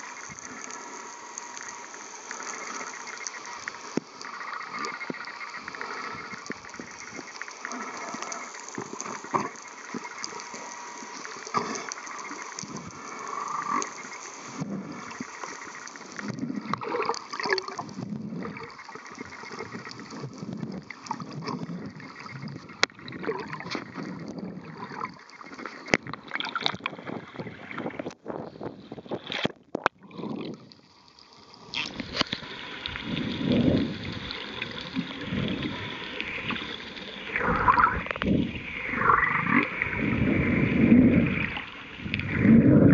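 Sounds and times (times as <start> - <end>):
underwater bubbling and gurgling: 0.0 - 42.9.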